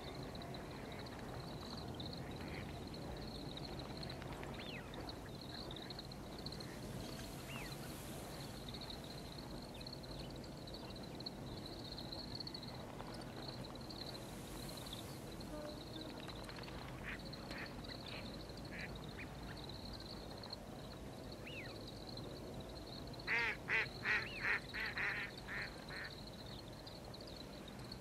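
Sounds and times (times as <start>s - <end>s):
songbirds twittering: 0.0s - 28.0s.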